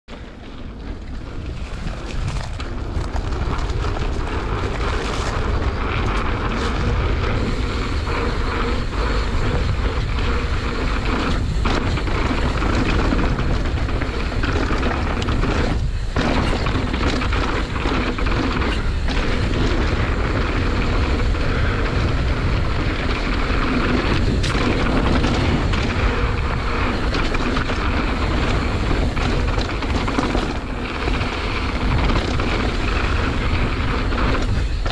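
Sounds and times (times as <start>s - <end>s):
bike tyres rumbling and rattling: 0.1s - 34.9s
wind buffeting microphone: 0.1s - 34.9s.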